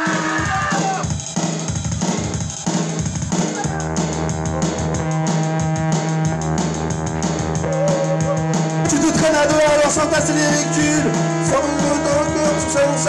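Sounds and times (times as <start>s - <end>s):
drum kit: 0.0s - 13.0s
rock band playing: 0.0s - 13.0s.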